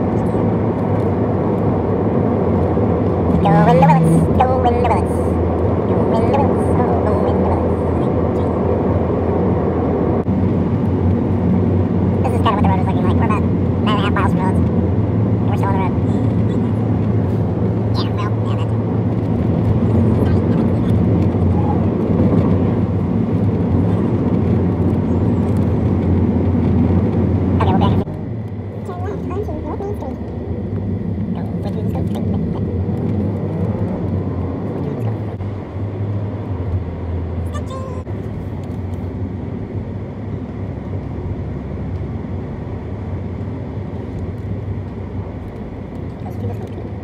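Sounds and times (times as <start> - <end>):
car road and engine rumble: 0.0 - 47.0.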